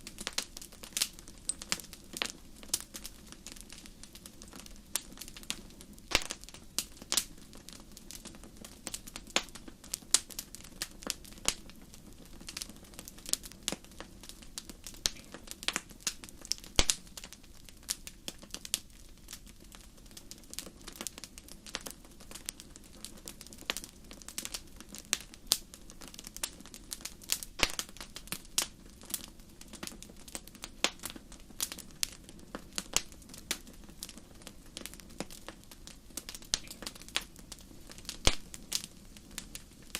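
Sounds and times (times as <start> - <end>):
campfire crackling and popping: 0.0 - 39.9
low rush of flames: 0.0 - 39.9.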